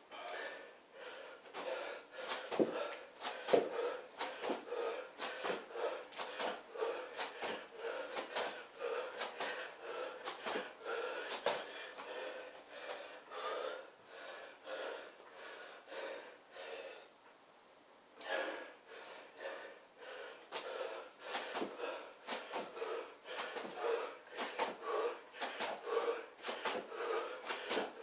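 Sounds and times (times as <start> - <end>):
man breathing heavily: 0.0 - 17.2, 18.2 - 28.0.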